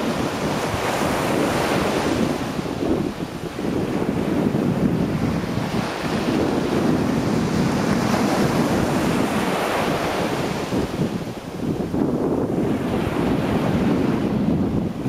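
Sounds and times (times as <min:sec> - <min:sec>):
small waves washing on beach: 0:00.0 - 0:15.0
wind rumbling on microphone: 0:00.0 - 0:15.0.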